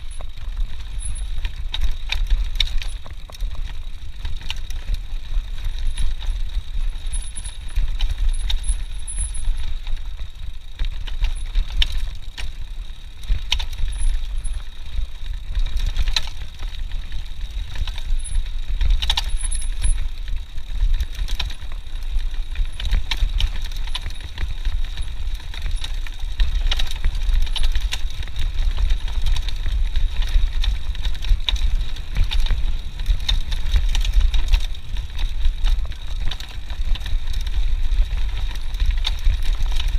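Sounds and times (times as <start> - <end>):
bike rattling and clacking: 0.0 - 39.9
bike tyre noise: 0.0 - 39.9
wind rumble on microphone: 0.0 - 39.9.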